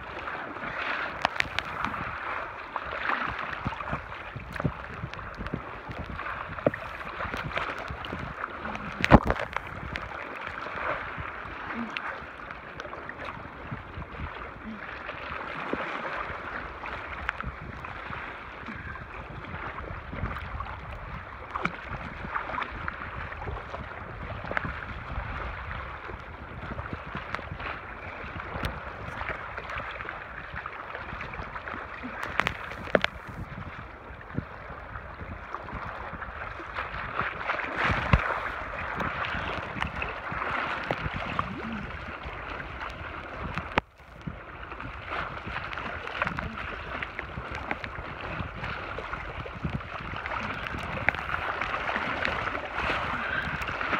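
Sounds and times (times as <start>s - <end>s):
water lapping on rocks: 0.0s - 53.9s.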